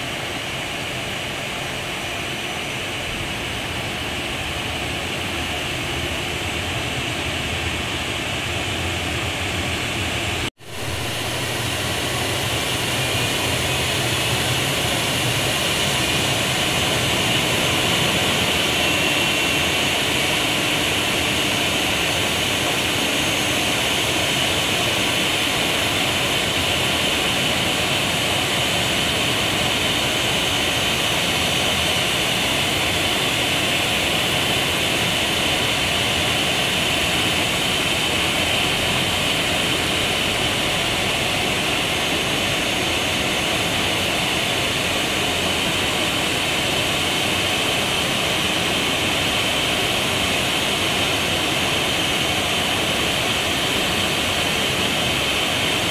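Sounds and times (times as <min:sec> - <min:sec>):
jet engines idling: 0:00.0 - 0:55.9.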